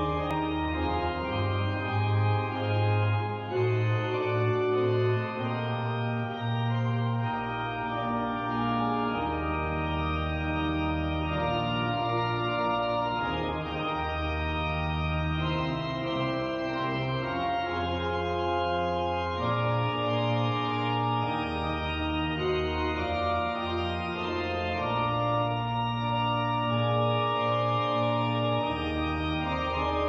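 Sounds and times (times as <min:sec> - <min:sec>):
organ playing slow chords: 0:00.0 - 0:30.0.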